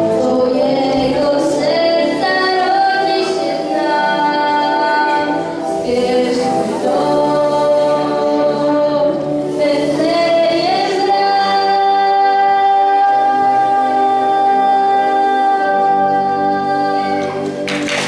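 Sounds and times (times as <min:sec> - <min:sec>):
girl singing into microphone: 0:00.0 - 0:17.6.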